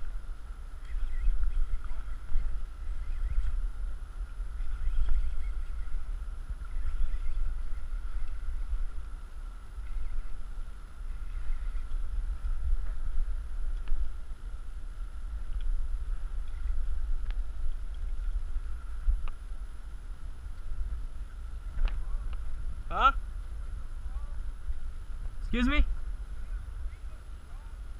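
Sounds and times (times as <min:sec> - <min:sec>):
wind rumbling on microphone: 0:00.0 - 0:27.9.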